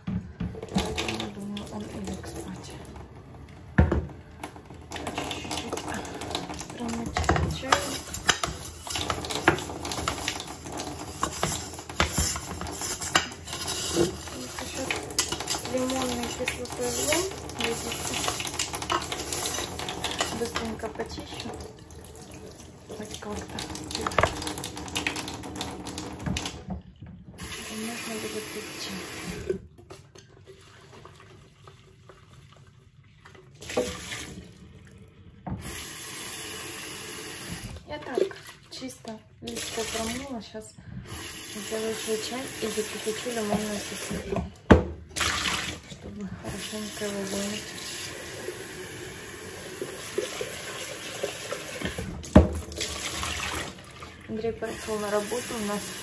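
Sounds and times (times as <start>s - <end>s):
tap water running: 0.0s - 56.0s.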